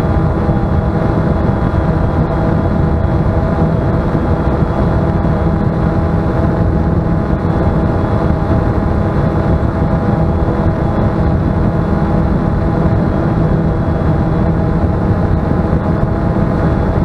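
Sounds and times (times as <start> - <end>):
drone motors humming: 0.0 - 17.0
wind rumble: 0.0 - 17.0.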